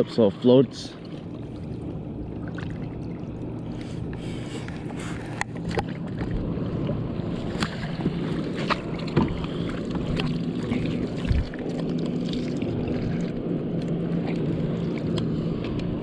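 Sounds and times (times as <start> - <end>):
steady low hum: 0.0 - 16.0
water lapping against kayak hull: 0.7 - 16.0.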